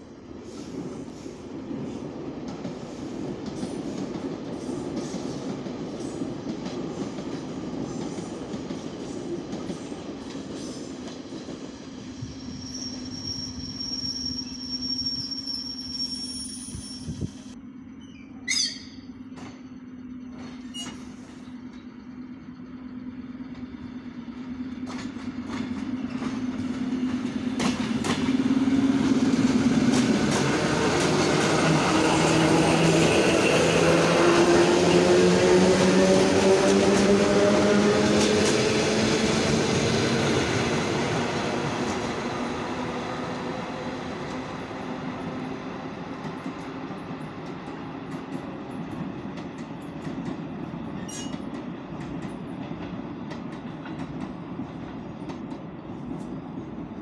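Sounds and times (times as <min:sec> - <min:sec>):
electric train hum: 0:00.0 - 0:57.0
train wheels rolling past: 0:00.0 - 0:57.0.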